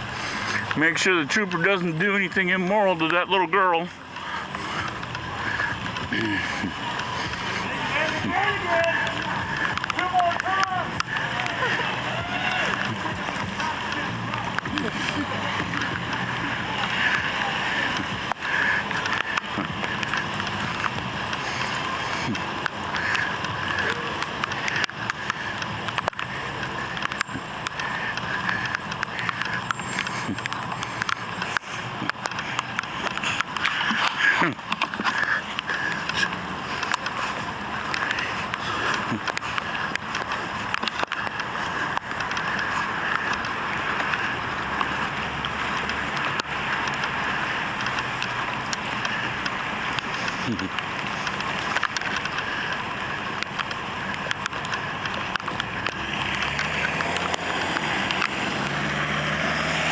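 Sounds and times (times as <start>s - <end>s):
faint voices: 0.0s - 55.9s
vehicle road and engine noise: 0.0s - 59.9s
small rattles and clicks: 4.1s - 59.9s.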